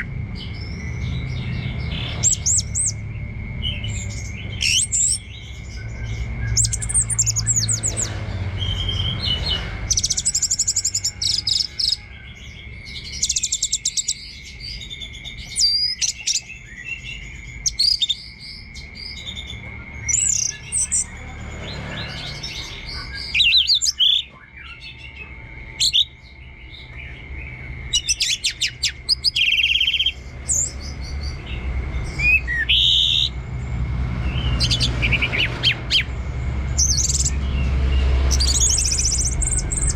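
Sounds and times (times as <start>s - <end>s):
thrush singing chirps and trills: 0.0s - 39.9s.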